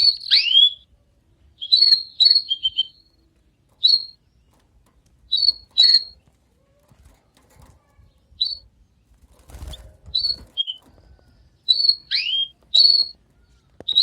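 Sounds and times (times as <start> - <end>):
canary chirping: 0.0 - 14.0.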